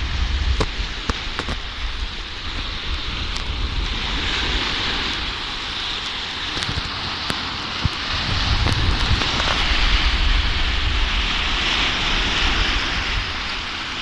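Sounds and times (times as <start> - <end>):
surf rushing on shore: 0.0 - 14.0
wind buffeting microphone: 0.0 - 14.0.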